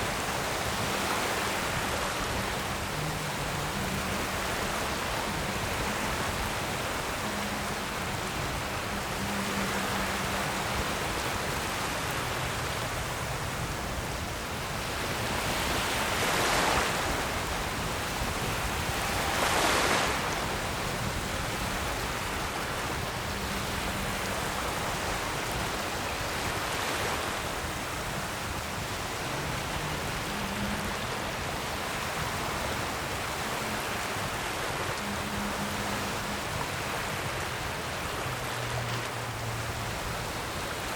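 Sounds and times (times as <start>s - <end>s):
waves breaking: 0.0s - 40.9s
waves washing in: 0.0s - 40.9s.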